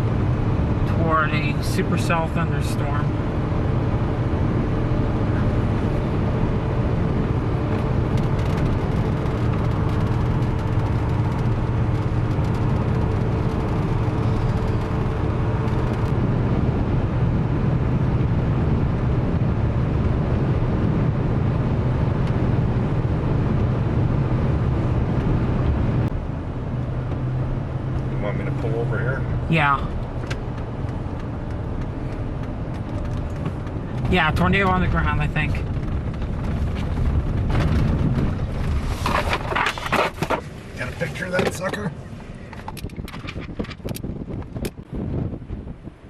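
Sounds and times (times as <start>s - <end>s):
car road and engine drone: 0.0s - 46.0s.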